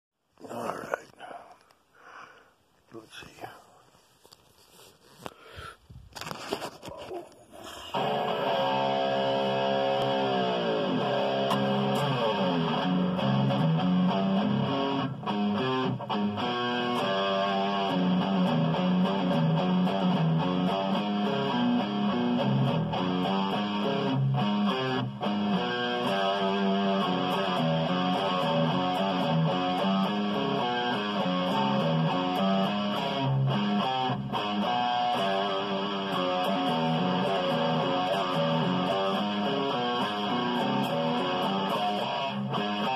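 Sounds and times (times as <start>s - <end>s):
electric guitar picked notes: 7.9s - 42.9s.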